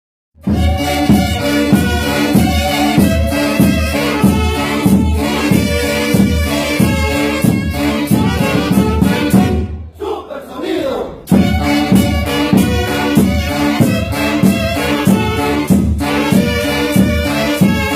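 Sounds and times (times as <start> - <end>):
brass band music: 0.4 - 10.2, 11.1 - 17.9.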